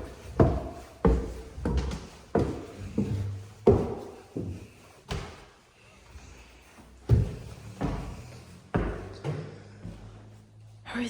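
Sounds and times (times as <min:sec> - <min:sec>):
heavy footsteps thudding indoors: 0:00.0 - 0:10.5.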